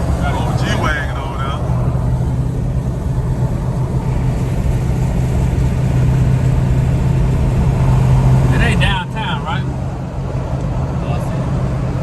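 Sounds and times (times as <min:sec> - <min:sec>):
car engine humming: 0:00.0 - 0:12.0
road noise: 0:00.0 - 0:12.0.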